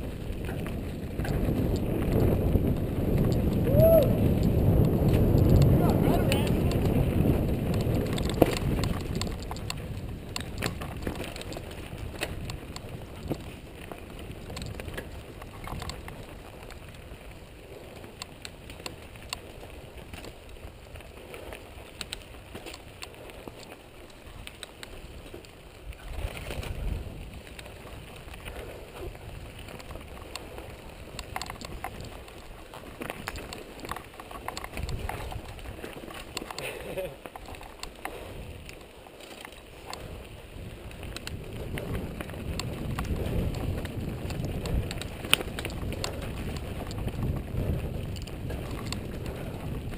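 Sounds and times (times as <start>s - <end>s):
bike clicks and rattles: 0.0s - 49.9s
tyres crunching on dirt and stones: 0.0s - 49.9s.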